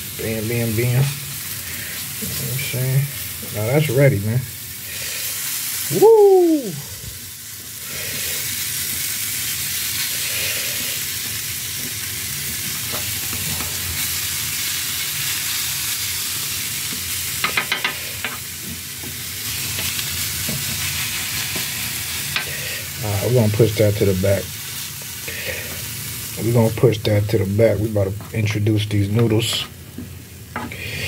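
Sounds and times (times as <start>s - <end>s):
chicken sizzling on griddle: 0.0s - 31.0s.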